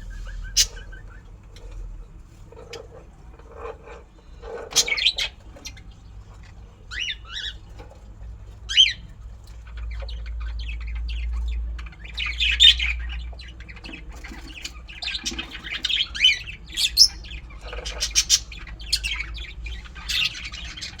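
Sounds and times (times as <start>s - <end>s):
lovebirds squawking and chirping: 0.0s - 21.0s.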